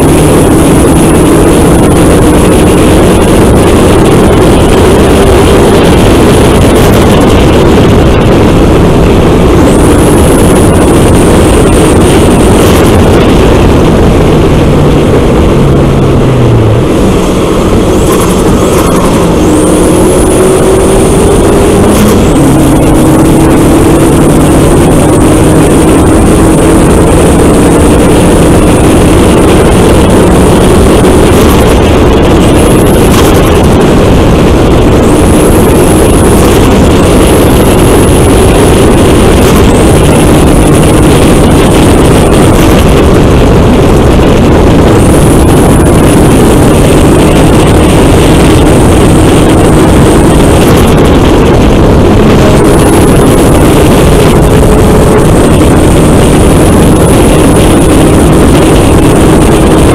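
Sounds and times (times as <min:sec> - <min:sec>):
car engine running: 0:00.0 - 0:59.9
wind and road noise: 0:00.0 - 0:59.9.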